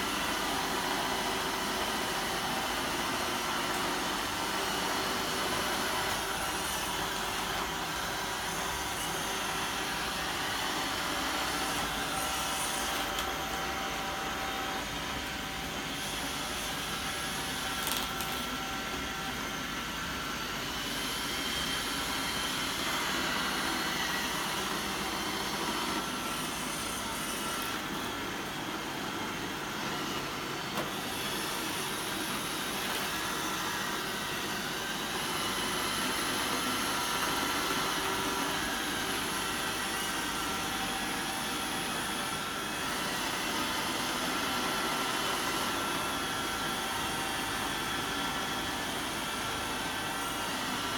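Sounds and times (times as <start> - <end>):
robot vacuum whirring: 0.4 - 19.6, 20.3 - 50.9.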